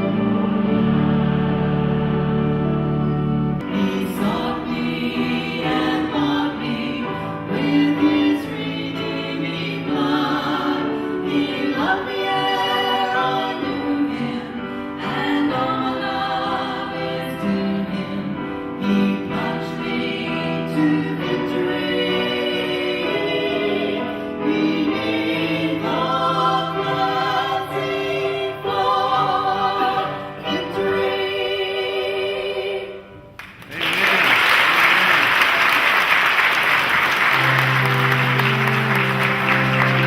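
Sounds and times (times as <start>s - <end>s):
gospel choir with instruments: 0.0s - 40.0s.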